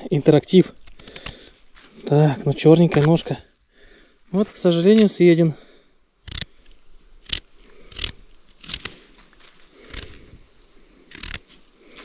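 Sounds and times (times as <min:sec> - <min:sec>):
sharp crunches and snaps: 0:00.4 - 0:05.3, 0:06.2 - 0:10.4, 0:11.0 - 0:12.0.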